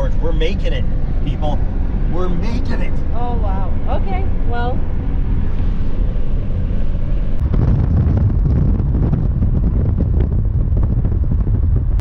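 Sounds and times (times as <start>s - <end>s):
road and engine rumble: 0.0s - 12.0s
wind buffeting microphone: 0.0s - 12.0s.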